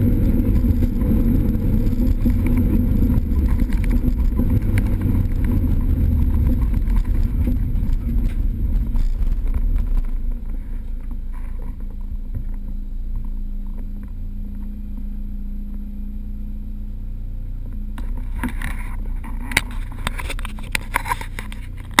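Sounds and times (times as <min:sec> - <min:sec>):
car engine running at low revs: 0:00.0 - 0:22.0
sharp clicks and knocks: 0:00.2 - 0:15.1, 0:17.6 - 0:22.0.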